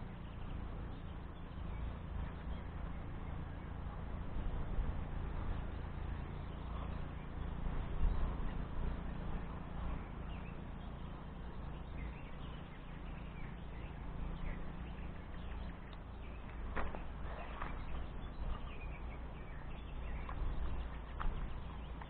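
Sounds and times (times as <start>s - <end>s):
faint bird chirps: 0.0s - 22.0s
wind rumbling on microphone: 0.0s - 22.0s.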